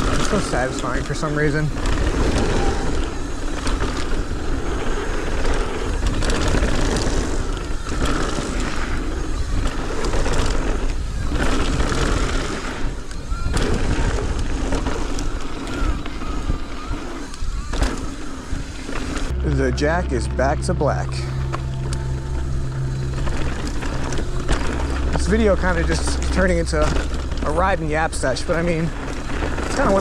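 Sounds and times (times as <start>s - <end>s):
bike knocks and rattles: 0.0s - 19.3s, 23.2s - 30.0s
bike tires rolling on dirt: 0.0s - 30.0s.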